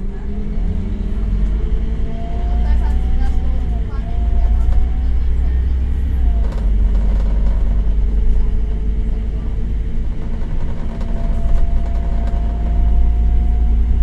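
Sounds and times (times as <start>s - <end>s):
bus diesel engine rumble: 0.0s - 14.0s.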